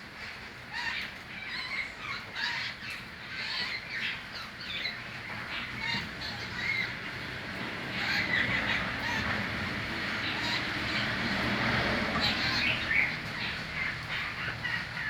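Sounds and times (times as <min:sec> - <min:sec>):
birds chirping: 0:00.6 - 0:15.0.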